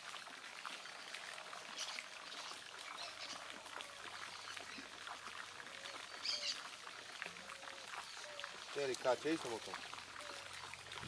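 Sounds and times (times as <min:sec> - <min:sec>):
faint water wash: 0:00.0 - 0:11.0.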